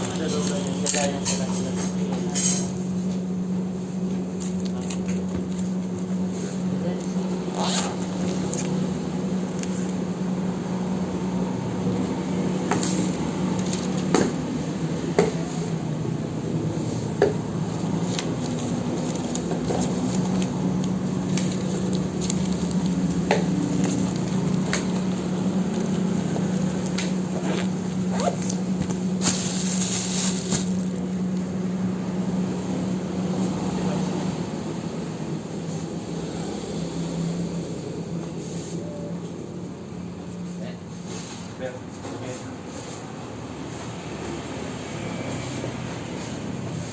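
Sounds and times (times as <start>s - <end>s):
paint-mixing machine humming: 0.0s - 39.9s.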